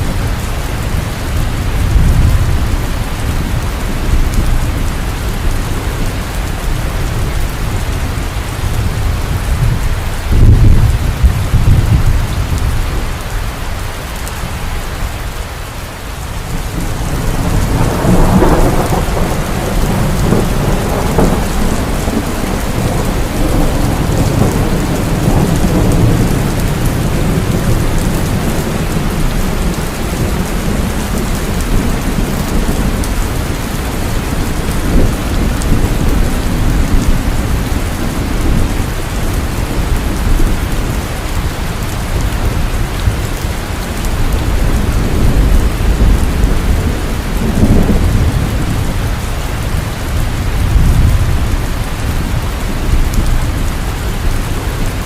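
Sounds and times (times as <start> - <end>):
rolling thunder: 0.0 - 13.2, 16.4 - 55.0
heavy rain falling: 0.0 - 55.0.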